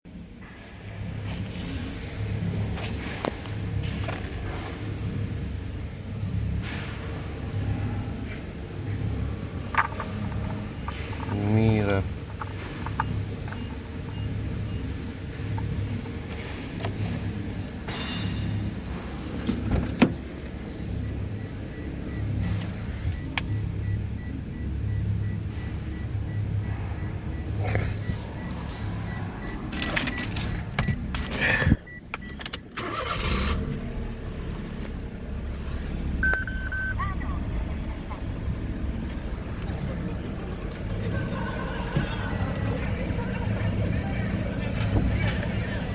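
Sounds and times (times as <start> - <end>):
car engine idling: 0.4 - 45.9.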